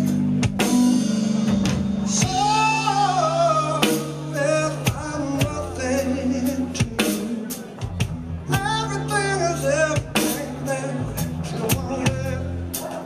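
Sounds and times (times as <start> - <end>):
drum and cymbal hits: 0.0 - 13.0
live rock band playing: 0.0 - 13.0
person singing: 2.0 - 13.0.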